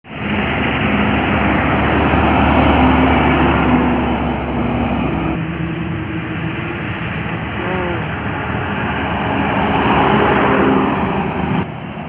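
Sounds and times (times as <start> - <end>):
truck diesel engine drone: 0.0 - 12.0
tyre and road noise: 0.0 - 12.0.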